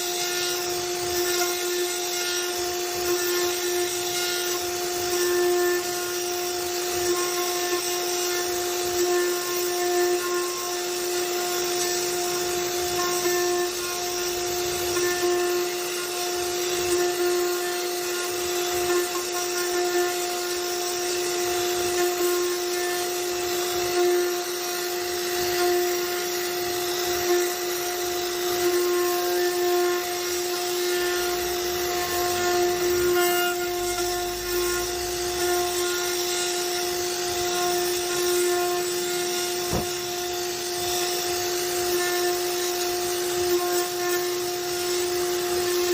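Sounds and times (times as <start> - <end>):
bit cutting wood: 0.0 - 45.9
router spindle whine: 0.0 - 45.9.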